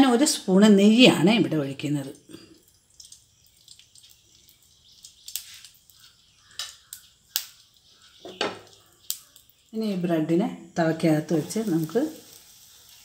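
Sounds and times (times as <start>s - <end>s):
ghee sizzling on hot pan: 0.0s - 13.0s
sharp crackles and pops: 1.9s - 10.4s, 11.0s - 13.0s.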